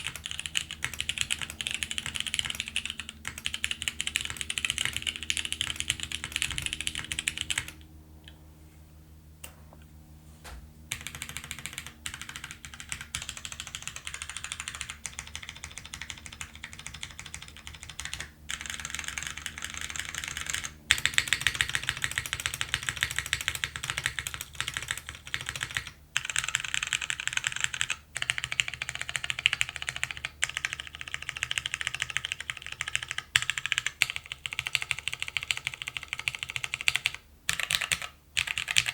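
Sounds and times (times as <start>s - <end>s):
mechanical keyboard typing: 0.0s - 7.9s, 10.9s - 38.9s.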